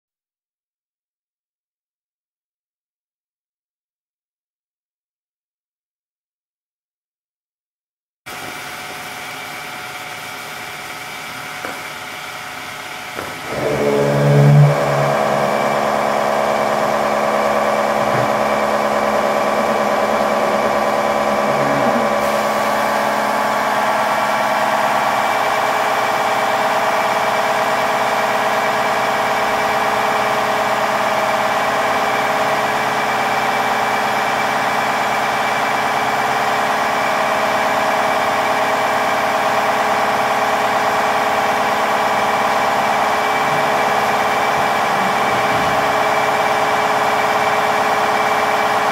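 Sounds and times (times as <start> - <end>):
press machine mechanical hum: 8.3 - 48.9.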